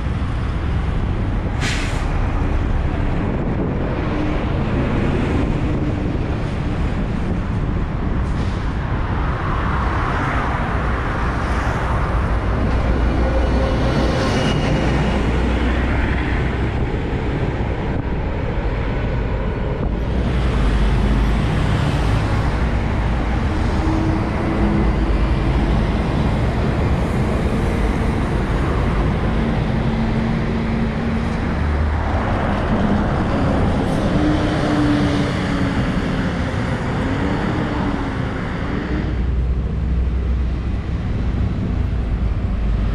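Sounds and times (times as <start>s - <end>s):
buses and cars driving past: 0.0s - 42.9s.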